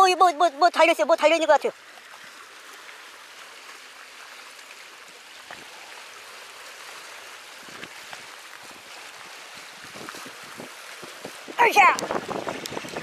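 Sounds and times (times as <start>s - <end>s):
waves washing over rocks: 0.0s - 13.0s.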